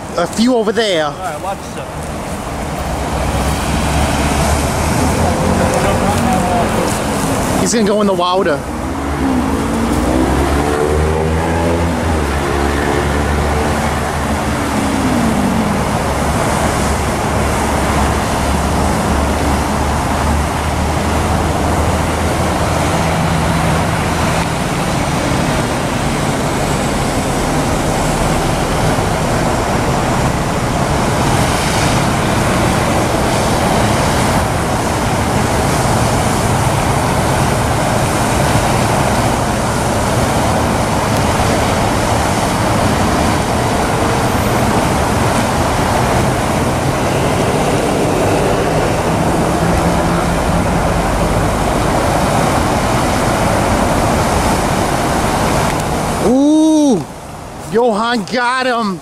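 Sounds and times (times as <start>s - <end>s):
passing vehicle: 0.0s - 59.0s
road traffic rumble: 0.0s - 59.0s.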